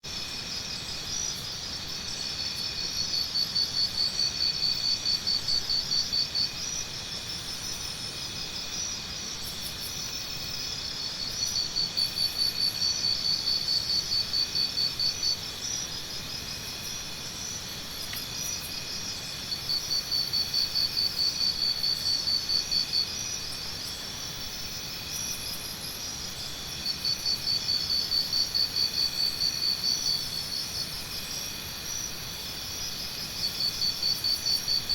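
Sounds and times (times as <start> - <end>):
insect chorus trilling: 0.1 - 34.9
loud pulsing insect trill: 0.1 - 34.9.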